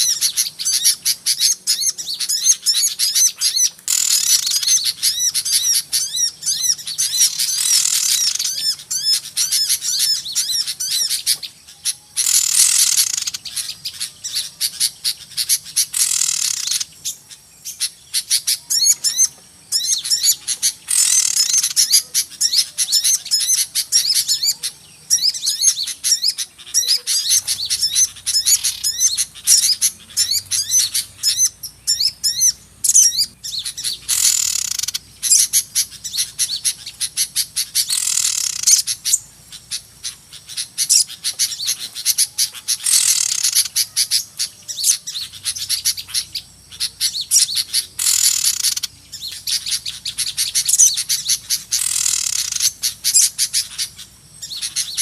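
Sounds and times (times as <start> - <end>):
harsh hissy bird calls: 0.0 - 55.0
small birds chirping and twittering: 0.0 - 55.0.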